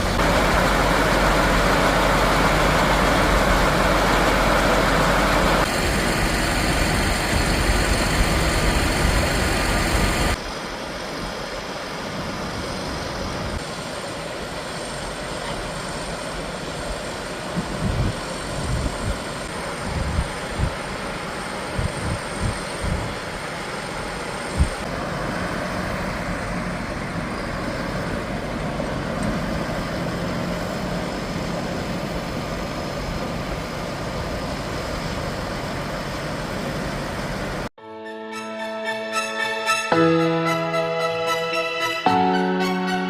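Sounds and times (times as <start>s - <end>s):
heavy farm machinery engine: 0.0s - 37.7s.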